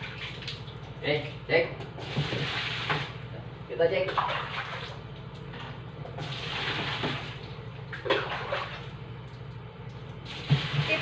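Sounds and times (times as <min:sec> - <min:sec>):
steady low hum: 0:00.0 - 0:11.0
water sloshing in washing machine tub: 0:00.0 - 0:11.0.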